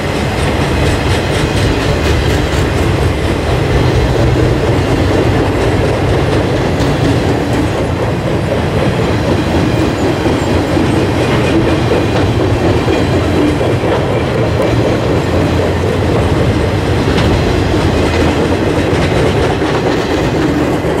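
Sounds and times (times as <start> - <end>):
steel wheels rumbling on rails: 0.0 - 21.0.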